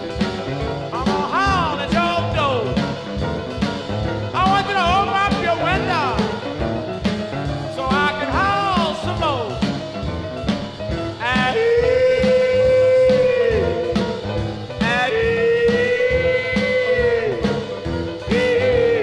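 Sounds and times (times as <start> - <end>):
rhythm and blues record: 0.0 - 19.0.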